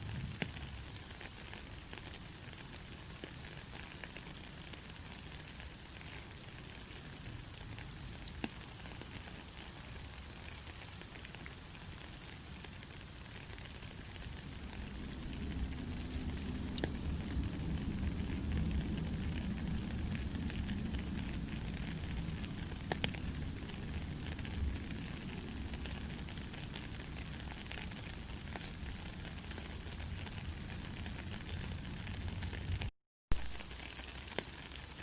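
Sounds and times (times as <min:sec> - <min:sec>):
small crackles: 0:00.0 - 0:35.0.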